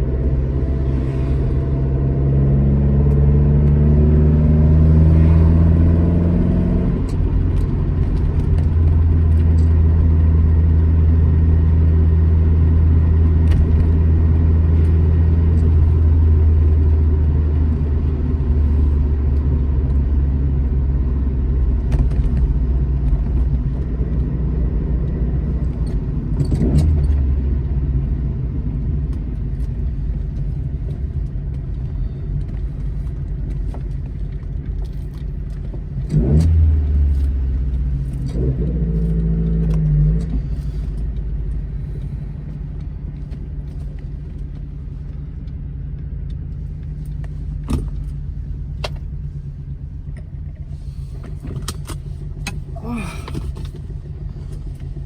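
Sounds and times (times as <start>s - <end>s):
car engine driving on road: 0.0s - 55.0s.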